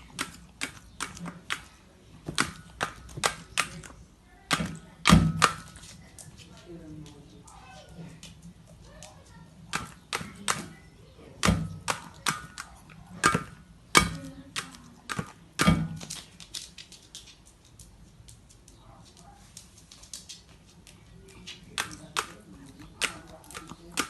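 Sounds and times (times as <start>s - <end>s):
beak pecking at a dish: 0.0s - 6.0s, 8.5s - 16.5s, 17.5s - 24.0s.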